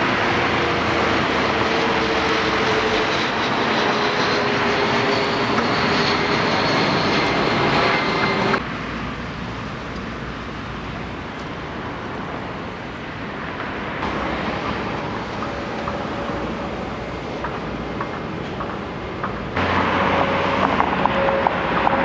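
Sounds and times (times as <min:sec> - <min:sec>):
distant machinery rumble: 0:00.0 - 0:22.0
distant traffic: 0:00.0 - 0:22.0.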